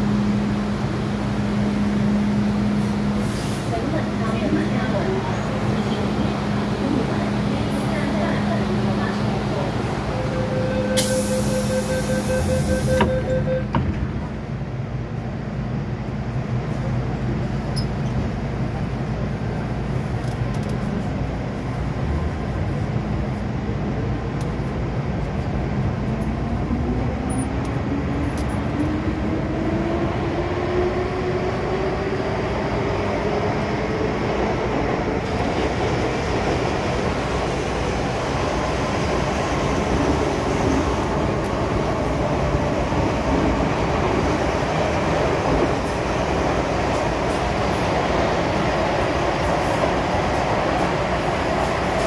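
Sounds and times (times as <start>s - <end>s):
train rumbling over track: 0.0s - 52.0s.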